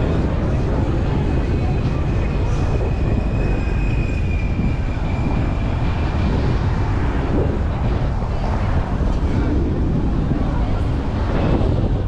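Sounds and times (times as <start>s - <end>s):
car engine and tyre rumble: 0.0s - 12.0s
wind: 0.0s - 12.0s.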